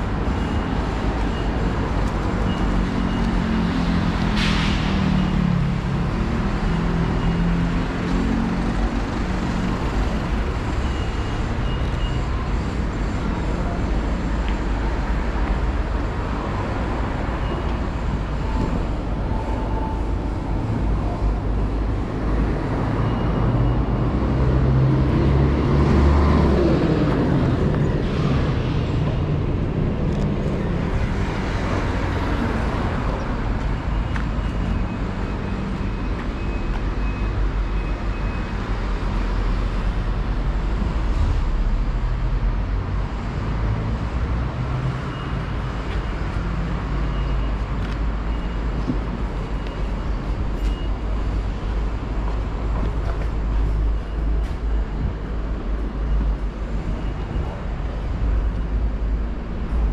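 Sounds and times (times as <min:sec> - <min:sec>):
vehicle engines passing: 0:00.0 - 0:59.9.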